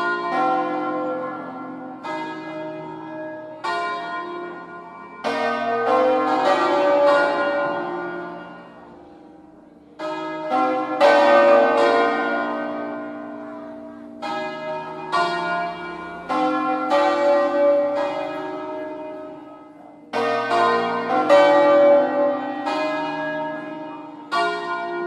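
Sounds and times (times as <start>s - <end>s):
church bells ringing: 0.0s - 25.0s.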